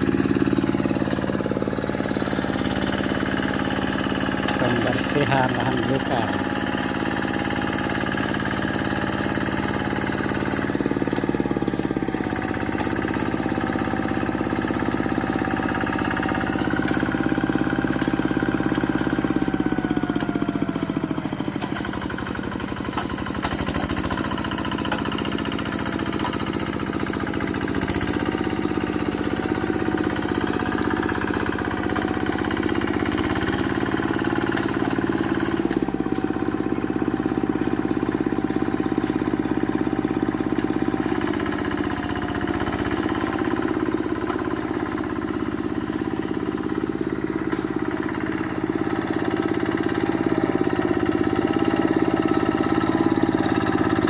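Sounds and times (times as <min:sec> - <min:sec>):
hand tractor engine running hard: 0:00.0 - 0:54.0.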